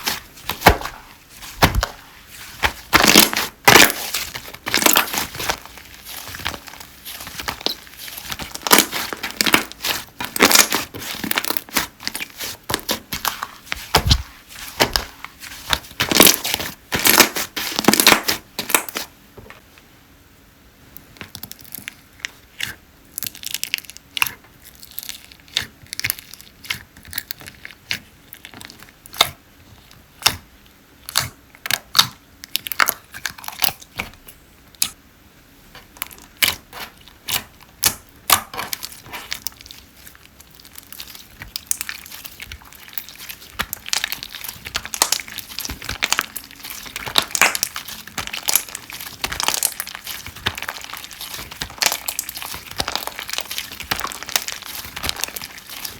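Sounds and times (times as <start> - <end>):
slime popping and crackling: 0.0 - 19.1, 21.3 - 29.4, 30.2 - 35.0, 35.9 - 55.9.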